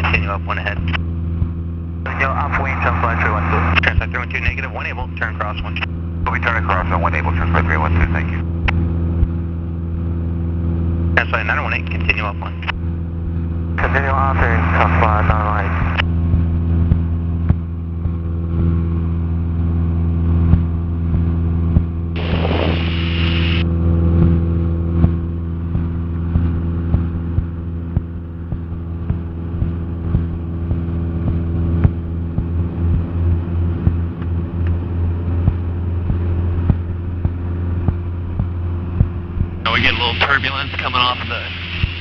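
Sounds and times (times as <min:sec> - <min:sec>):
propeller plane engine droning: 0:00.0 - 0:42.0.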